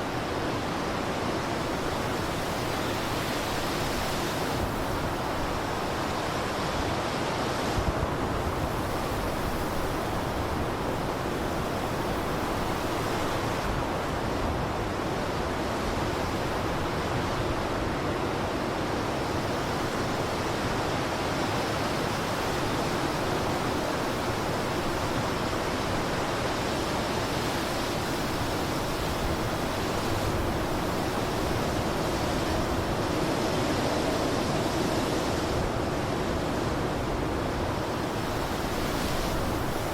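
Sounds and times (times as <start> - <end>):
blizzard wind blowing: 0.0 - 39.9.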